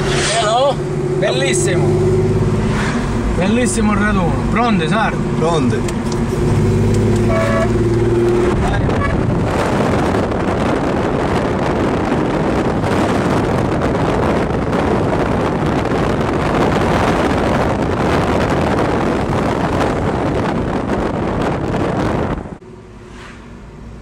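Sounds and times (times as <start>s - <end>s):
car road noise: 0.0s - 24.0s
wind rushing over microphone: 0.0s - 24.0s.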